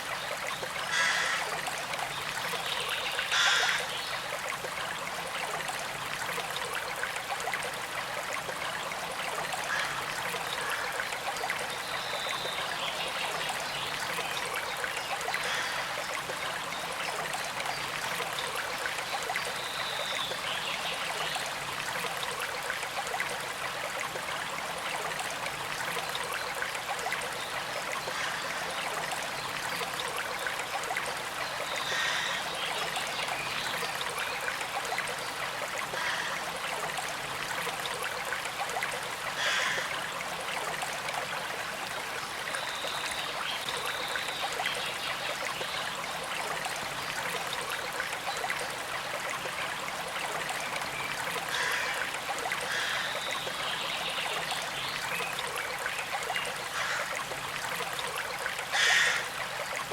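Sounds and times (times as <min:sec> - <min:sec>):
creek trickling: 0:00.0 - 0:59.9.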